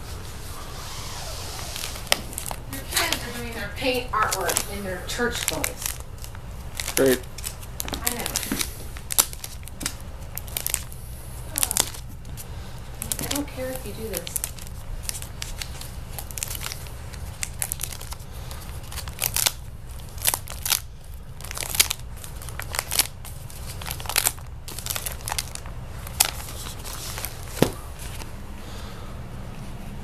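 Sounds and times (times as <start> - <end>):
plastic pages crinkling and flapping: 0.8 - 28.3.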